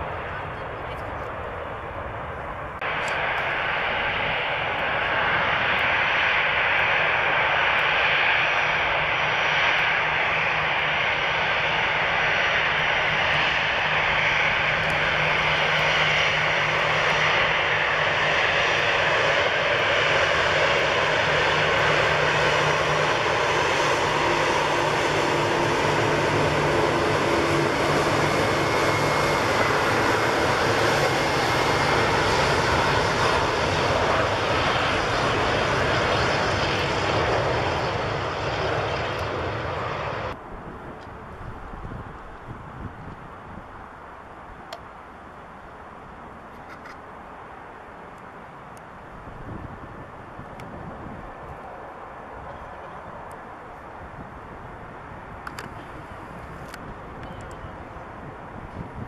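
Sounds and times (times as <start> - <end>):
jet engines rushing: 0.0 - 59.0.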